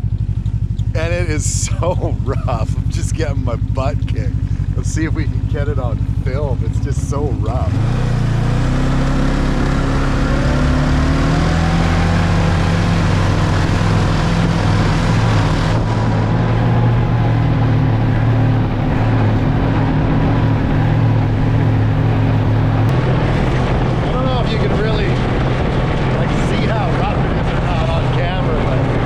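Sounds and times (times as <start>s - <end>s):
snowmobile engine running: 0.0s - 29.0s.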